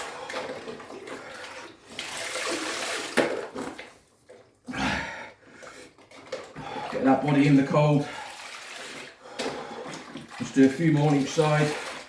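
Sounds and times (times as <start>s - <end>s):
ice water pouring and splashing: 0.0s - 12.0s.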